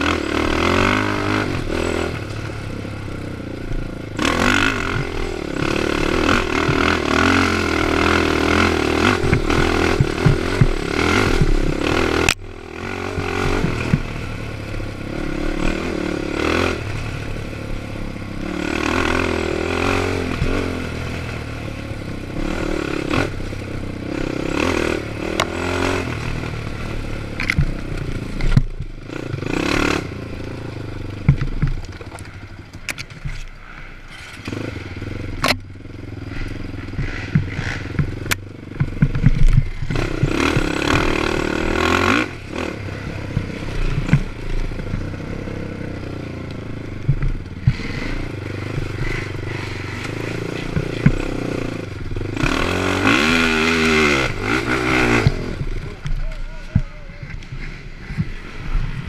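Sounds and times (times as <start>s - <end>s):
quad engine revving: 0.0s - 32.2s, 34.1s - 59.0s
knocks and clatter over rough trail: 0.0s - 59.0s.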